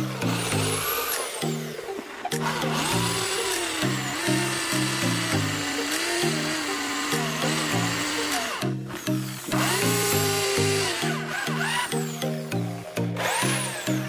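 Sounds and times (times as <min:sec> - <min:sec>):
background music with steady bass: 0:00.0 - 0:14.0
electric drill boring through plastic: 0:00.0 - 0:14.0.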